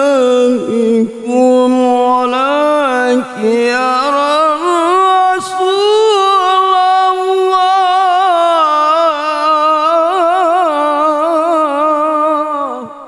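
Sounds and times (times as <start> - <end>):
man reciting in long sung note: 0.0 - 13.0.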